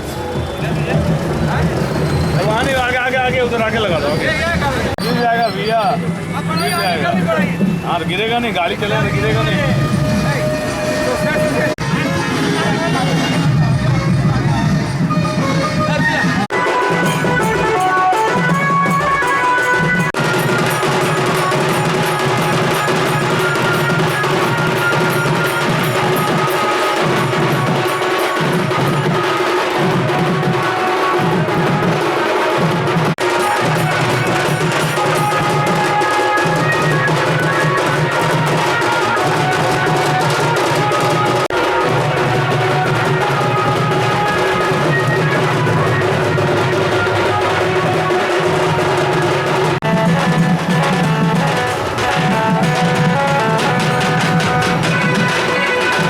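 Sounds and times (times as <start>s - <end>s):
loud music with drums: 0.0s - 56.0s.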